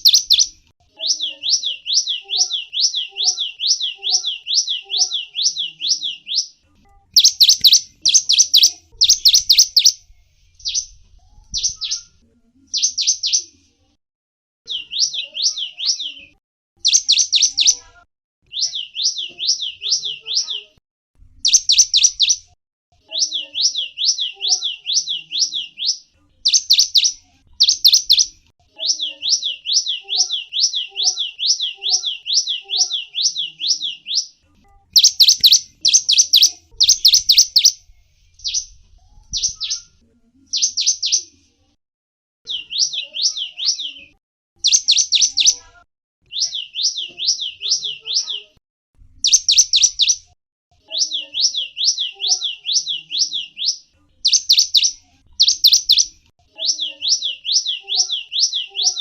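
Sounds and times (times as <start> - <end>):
songbird chirping: 0.0 - 13.8, 14.7 - 20.8, 21.4 - 41.5, 42.5 - 48.6, 49.2 - 59.0.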